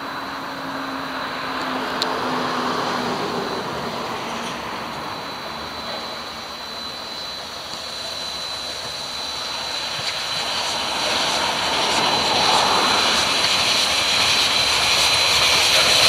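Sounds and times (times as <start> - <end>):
steam train rushing: 0.0 - 16.0.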